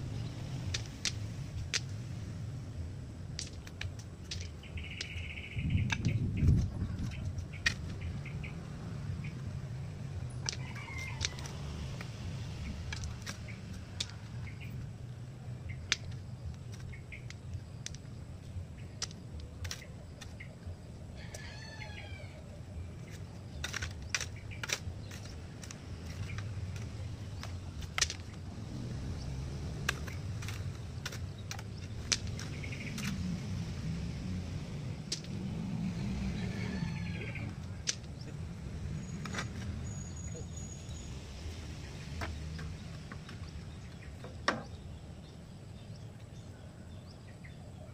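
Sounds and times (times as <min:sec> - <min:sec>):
low background rumble: 0:00.0 - 0:47.7
bird chirping: 0:04.3 - 0:11.7, 0:12.5 - 0:47.9.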